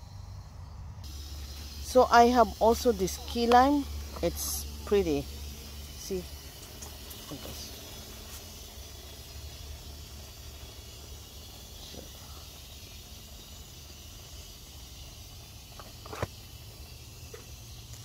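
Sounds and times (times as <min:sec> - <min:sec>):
low hum: 0:00.0 - 0:18.0
water spraying from a hose: 0:01.0 - 0:18.0.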